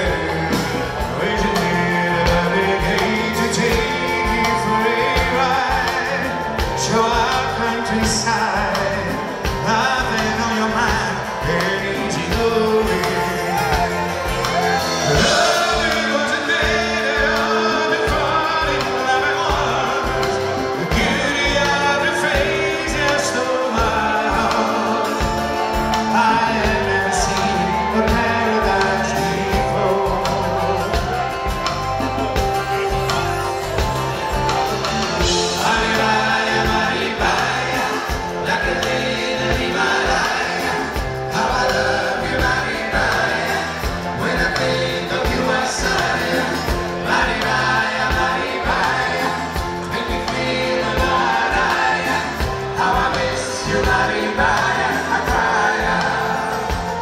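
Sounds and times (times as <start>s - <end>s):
bass: 0.0s - 57.0s
drums: 0.0s - 57.0s
men singing lead and harmony: 0.0s - 57.0s.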